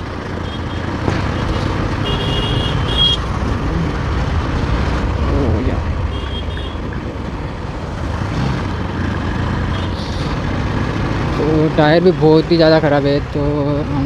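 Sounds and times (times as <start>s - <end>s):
motorcycle engine rumble: 0.0s - 14.0s
road and wind noise: 0.0s - 14.0s.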